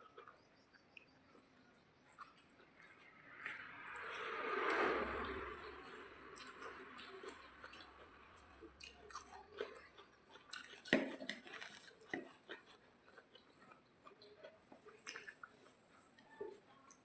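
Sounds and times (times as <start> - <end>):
chewing and biting food: 0.0 - 17.0.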